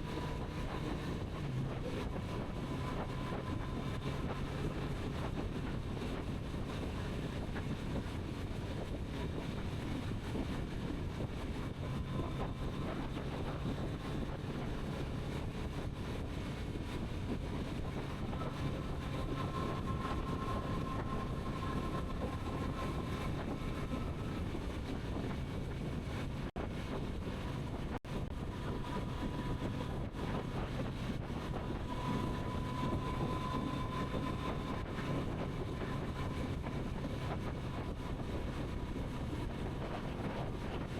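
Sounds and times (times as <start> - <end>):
engine whine: 0.0 - 40.9
wind rush over microphone: 0.0 - 40.9.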